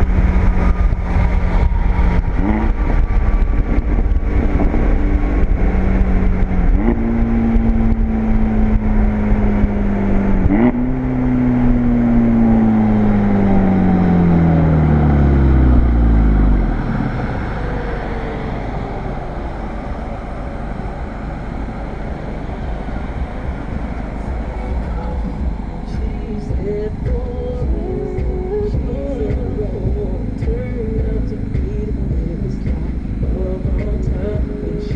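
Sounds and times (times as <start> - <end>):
car engine revving: 0.0 - 34.9
steady rushing noise: 0.0 - 34.9.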